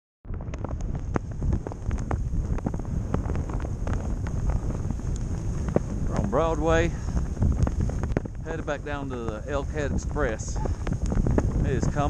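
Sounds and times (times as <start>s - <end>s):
wind buffeting microphone: 0.2s - 12.0s.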